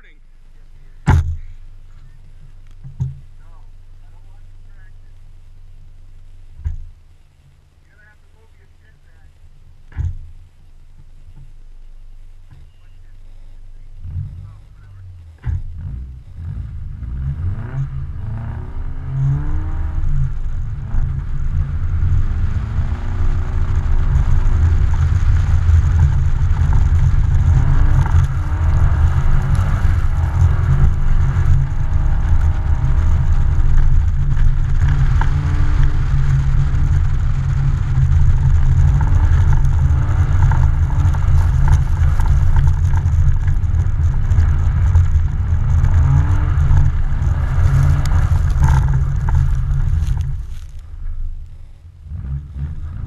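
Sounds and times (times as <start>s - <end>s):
car engine revving: 0.0s - 53.0s
heavy low rumble: 0.0s - 53.0s.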